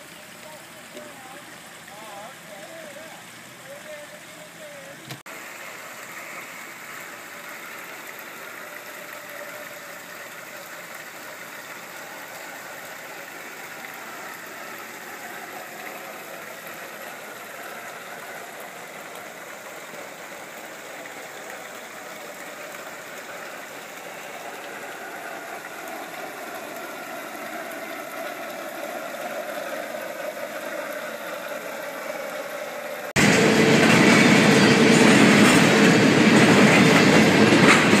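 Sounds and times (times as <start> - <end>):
freight train passing: 5.4 - 38.0.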